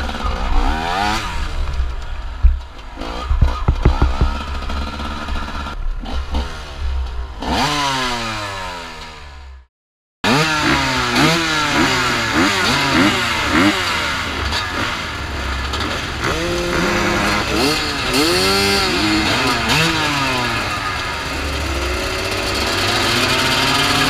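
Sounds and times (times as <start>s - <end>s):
dirt bike engines revving: 0.0s - 9.5s, 10.3s - 24.0s
motorcycle engine running: 0.0s - 9.6s, 11.6s - 24.0s.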